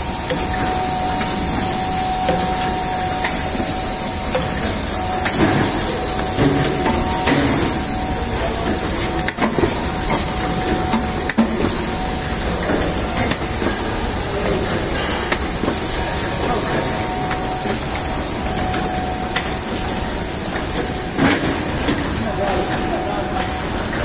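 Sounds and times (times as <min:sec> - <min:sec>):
binding machine hiss and clatter: 0:00.0 - 0:24.0.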